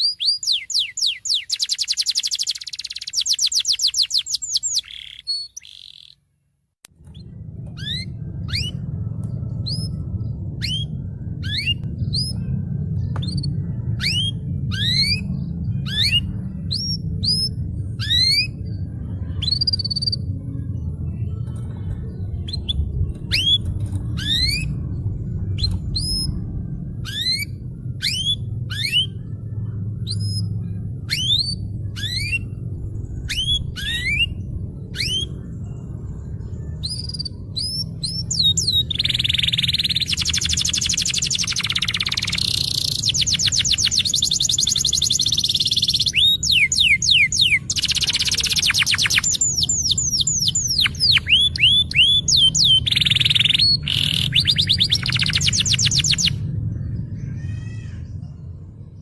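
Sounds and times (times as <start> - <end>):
canary singing chirps and trills: 0.0 - 59.0.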